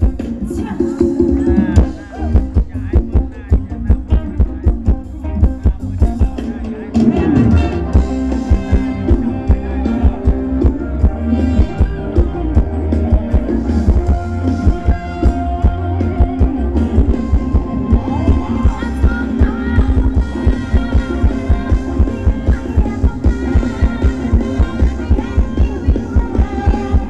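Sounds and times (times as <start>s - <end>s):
live band dance music: 0.0s - 27.0s.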